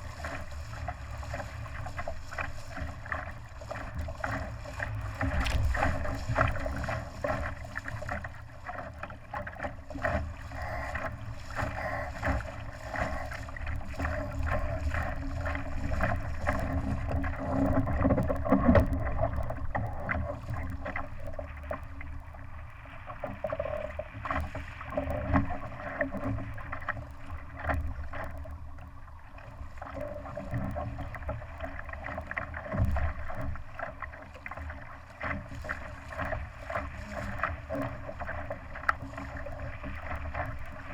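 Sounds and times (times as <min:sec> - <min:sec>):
water splashing along hull: 0:00.0 - 0:40.9
wind: 0:00.0 - 0:40.9.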